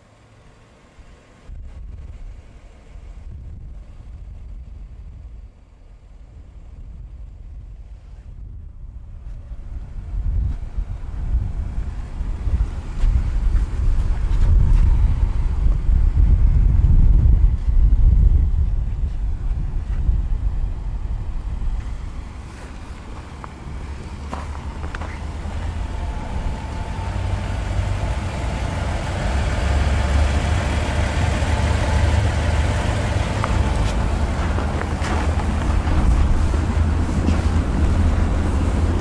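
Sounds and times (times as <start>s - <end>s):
wind buffeting microphone: 1.5s - 39.0s.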